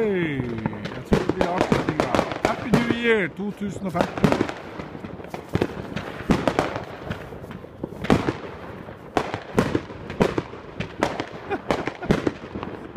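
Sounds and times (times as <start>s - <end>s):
firework bangs: 0.0s - 12.9s
firework crackling: 0.0s - 12.9s.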